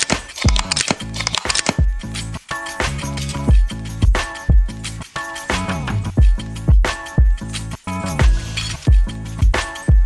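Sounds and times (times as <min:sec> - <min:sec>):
sustained bass and chords: 0:00.5 - 0:10.0.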